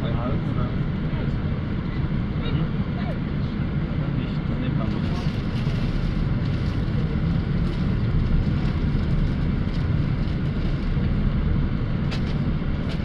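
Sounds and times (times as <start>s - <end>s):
heavy road traffic rumble: 0.0s - 13.0s.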